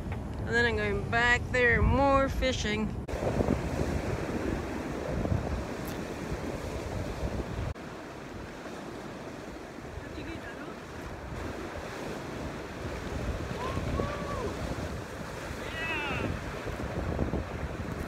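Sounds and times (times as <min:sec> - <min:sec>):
wind buffeting microphone: 0:00.0 - 0:18.0
surf washing over rocky shore: 0:03.0 - 0:18.0.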